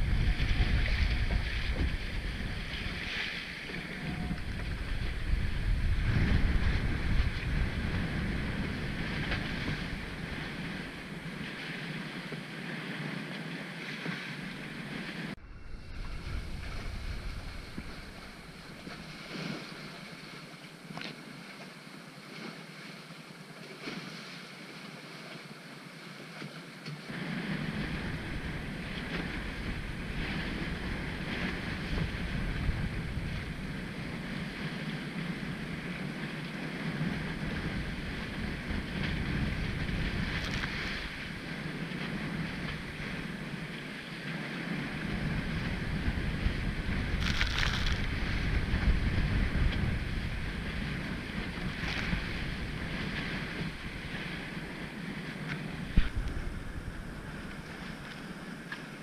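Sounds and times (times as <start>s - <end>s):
wind buffeting microphone: 0.0s - 20.4s, 27.1s - 59.0s
water rushing along hulls: 0.0s - 59.0s.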